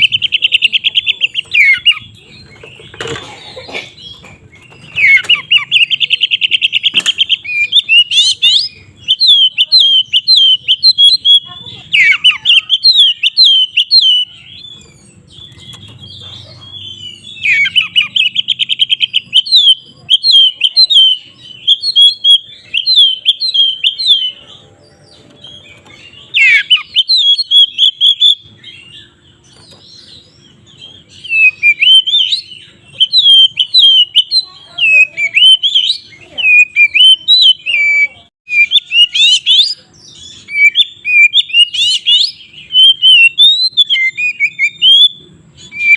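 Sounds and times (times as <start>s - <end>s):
songbird whistling song: 0.0s - 3.0s, 3.6s - 45.9s.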